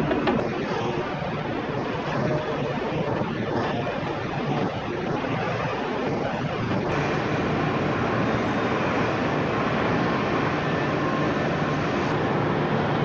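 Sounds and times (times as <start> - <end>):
deck cranes working: 0.0 - 13.0.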